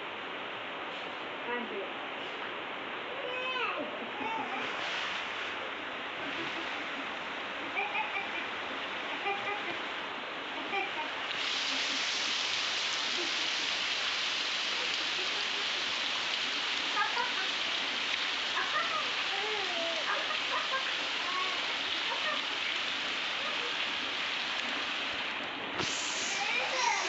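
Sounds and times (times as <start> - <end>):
heavy rain pattering: 3.0 - 27.0.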